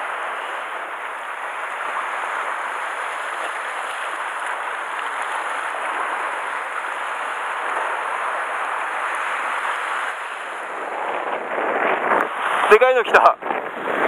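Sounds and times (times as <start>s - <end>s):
sea water washing against rocks: 0.0s - 14.0s.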